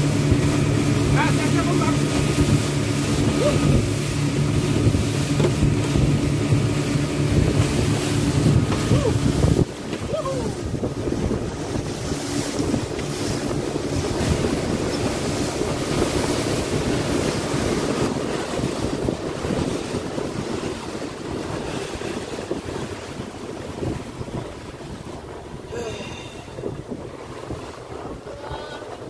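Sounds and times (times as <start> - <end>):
water rushing along a boat hull: 0.0 - 29.0
wind buffeting the microphone: 0.0 - 29.0.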